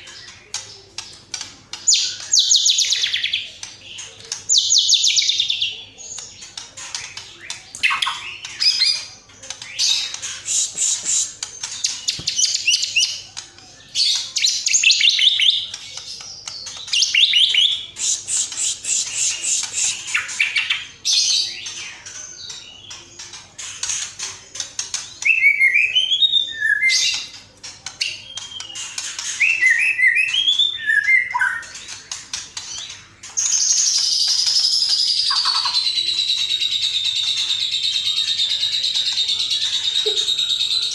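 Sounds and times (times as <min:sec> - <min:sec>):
high bird twittering: 0:01.7 - 0:27.4, 0:28.0 - 0:40.9.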